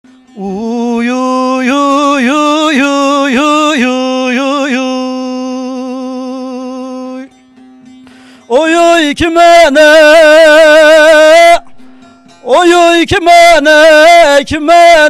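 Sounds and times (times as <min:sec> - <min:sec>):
man singing a long held note: 0:00.4 - 0:07.3, 0:08.5 - 0:11.7, 0:12.4 - 0:15.0.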